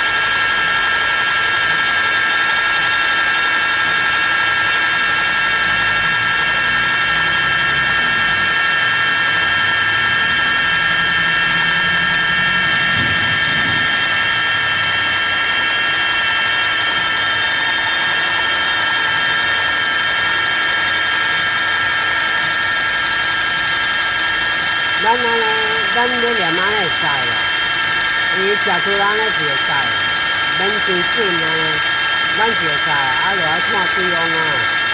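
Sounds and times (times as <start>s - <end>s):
machine hum: 0.0s - 34.9s
welding machine whine: 0.0s - 34.9s.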